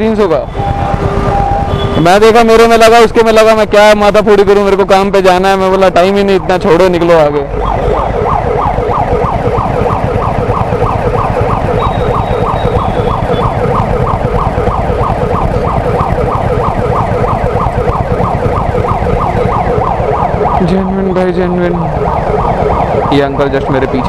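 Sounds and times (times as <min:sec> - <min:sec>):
engines idling: 0:00.0 - 0:24.0
siren yelping: 0:00.0 - 0:24.0.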